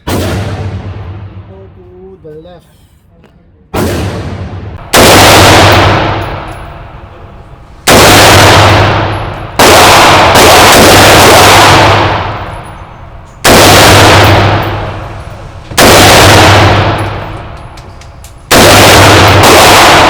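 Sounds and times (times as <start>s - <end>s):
rifle shots with echo: 0.0s - 1.5s, 3.8s - 20.0s.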